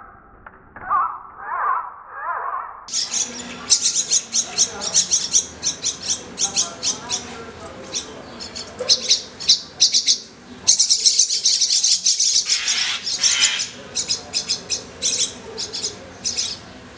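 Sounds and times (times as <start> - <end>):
nestlings chirping for food: 2.9 - 16.9.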